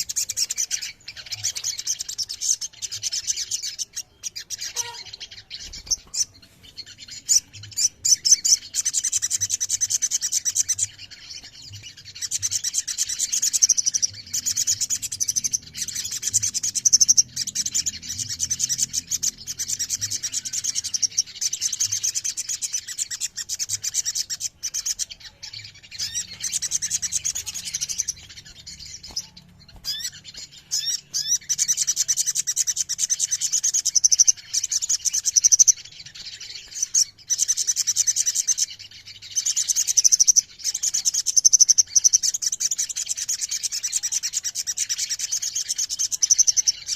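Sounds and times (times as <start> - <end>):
birds trilling: 0.0 - 46.9.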